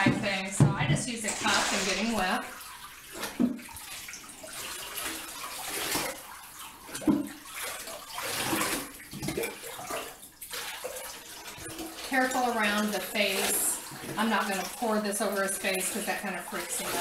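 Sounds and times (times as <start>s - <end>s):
water pouring into bathwater: 0.2s - 17.0s.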